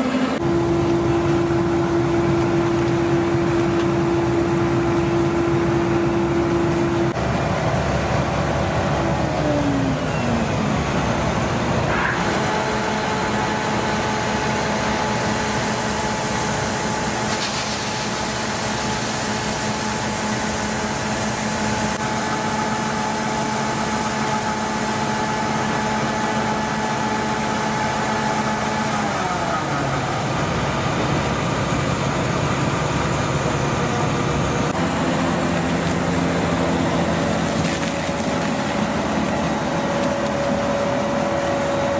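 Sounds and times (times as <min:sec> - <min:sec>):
combine harvester mechanical whine: 0:00.0 - 0:41.9.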